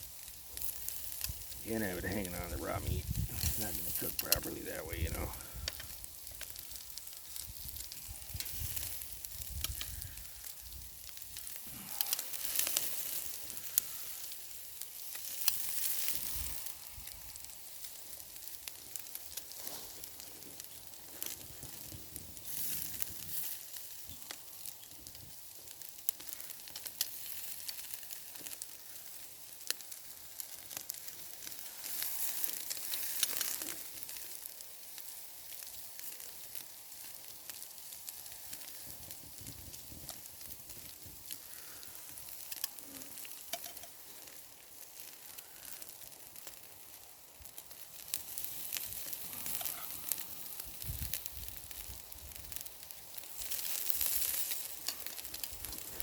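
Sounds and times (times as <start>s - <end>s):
meat sizzling on a grill: 0.0s - 56.0s
sharp crackles: 0.0s - 56.0s.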